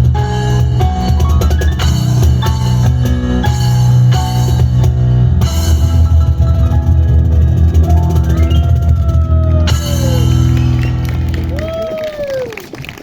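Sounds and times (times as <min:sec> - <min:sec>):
piano chords: 0:00.0 - 0:11.8
cajon percussion: 0:00.0 - 0:12.0.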